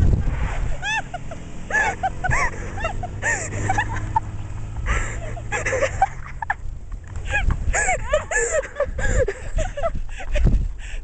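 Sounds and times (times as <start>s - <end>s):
low engine hum: 0.0s - 10.9s.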